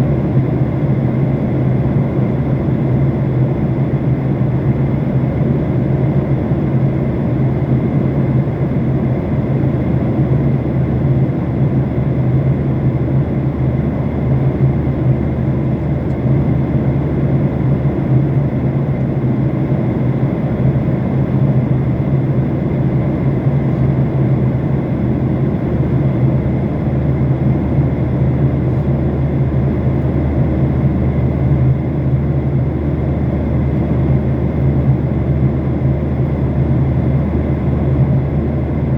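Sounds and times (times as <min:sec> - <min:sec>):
airliner engines humming: 0:00.0 - 0:38.9.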